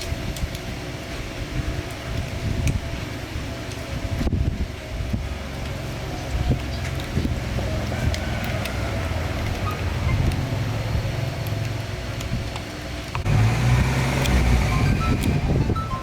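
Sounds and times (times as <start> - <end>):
passing motor vehicles rumble: 2.8 - 16.0.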